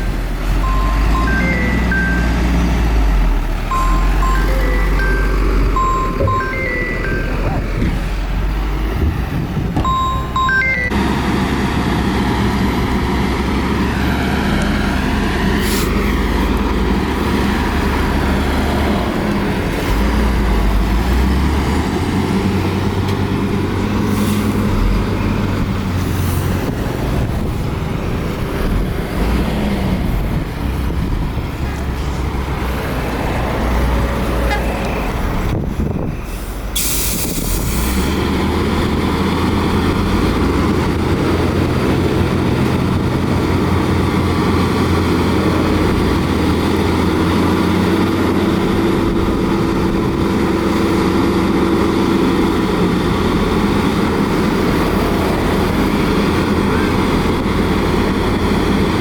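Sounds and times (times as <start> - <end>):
heavy diesel engines revving: 0.0 - 59.0.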